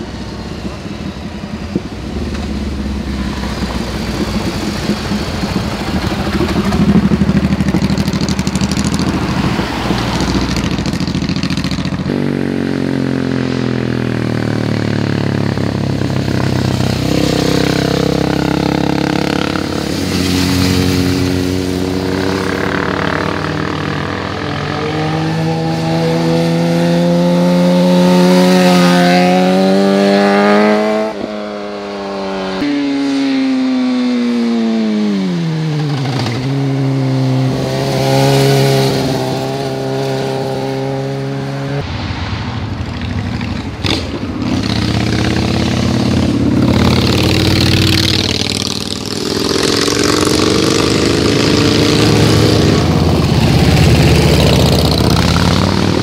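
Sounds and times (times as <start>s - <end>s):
sport bike accelerating: 0.0s - 41.8s, 42.8s - 56.0s
motorcycle engines: 0.0s - 56.0s.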